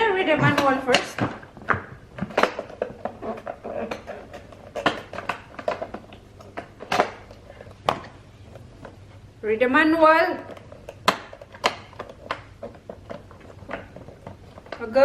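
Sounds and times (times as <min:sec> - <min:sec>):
plastic parts clicking and knocking: 0:00.0 - 0:09.1, 0:10.2 - 0:15.0.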